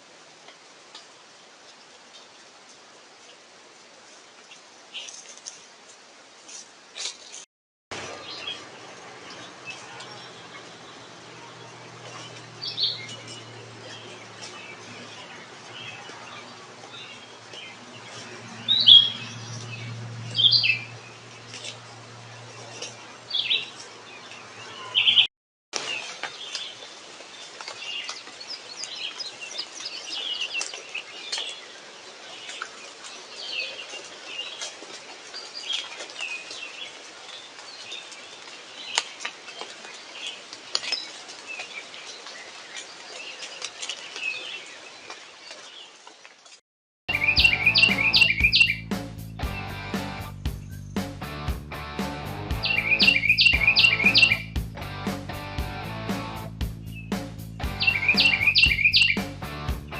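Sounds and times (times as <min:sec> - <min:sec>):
wild birds chirping: 0:06.3 - 0:51.4, 0:52.0 - 0:59.9.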